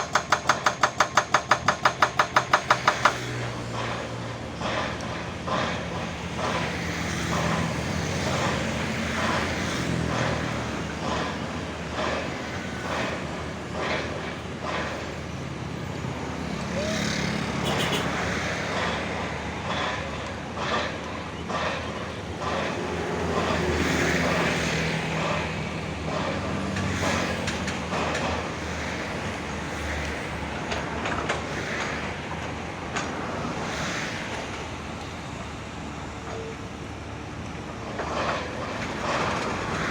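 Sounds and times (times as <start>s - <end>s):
knocks and clanks: 0.0s - 15.5s, 17.2s - 33.2s, 37.8s - 39.9s
excavator diesel engine under load: 0.0s - 39.9s.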